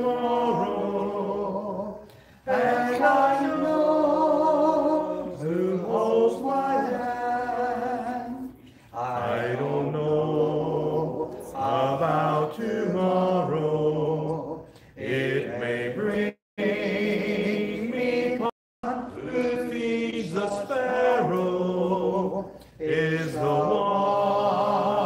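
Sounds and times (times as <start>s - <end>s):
man singing a hymn: 0.0s - 14.6s, 15.3s - 25.0s.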